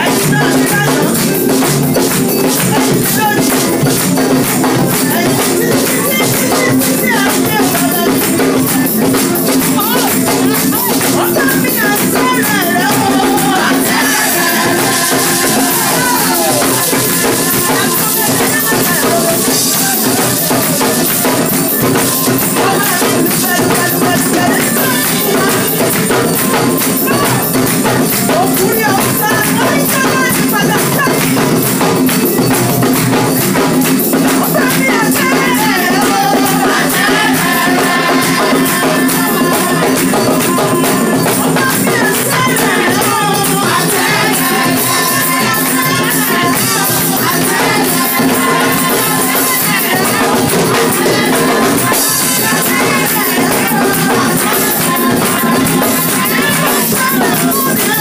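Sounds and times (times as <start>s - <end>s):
congregation singing: 0.0s - 58.0s
person singing into a microphone: 0.0s - 58.0s
tambourines and shakers rattling: 0.0s - 58.0s.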